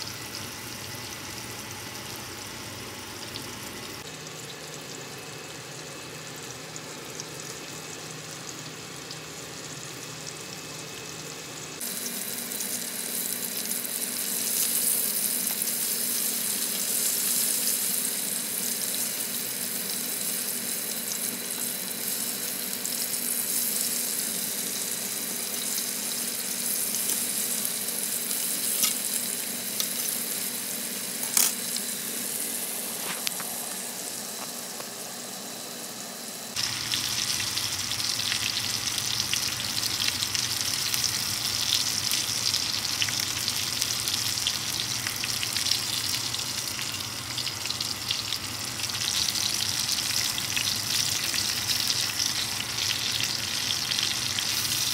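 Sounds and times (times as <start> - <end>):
chicken frying in oil: 0.0 - 35.0, 36.5 - 54.9.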